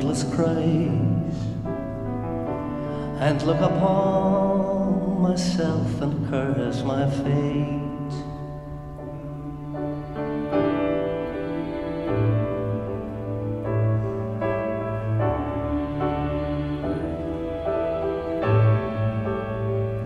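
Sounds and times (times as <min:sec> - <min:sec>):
piano playing slow chords: 0:00.0 - 0:20.0.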